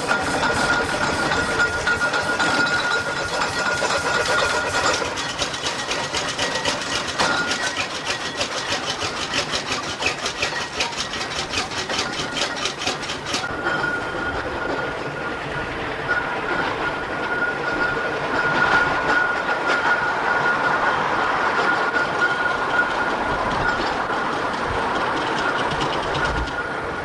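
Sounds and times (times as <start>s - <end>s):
steam engine exhaust beats: 0.0s - 27.0s.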